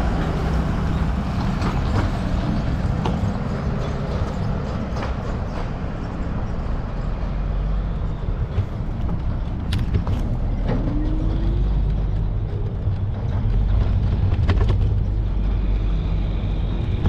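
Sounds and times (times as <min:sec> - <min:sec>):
street traffic: 0:00.0 - 0:17.0
wind rumble on microphone: 0:00.0 - 0:17.0.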